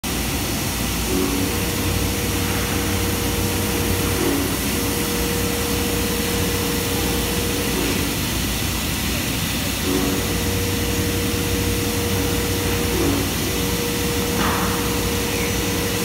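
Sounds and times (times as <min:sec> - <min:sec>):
machining center running: 0:00.0 - 0:16.0
coolant spraying: 0:00.1 - 0:16.0
steady machine whine: 0:00.1 - 0:16.0.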